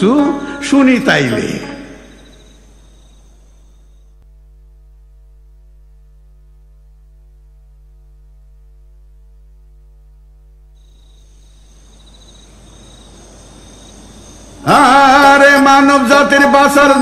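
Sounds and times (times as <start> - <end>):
electrical mains hum: 0.0 - 17.0
high whine with hiss: 0.0 - 17.0.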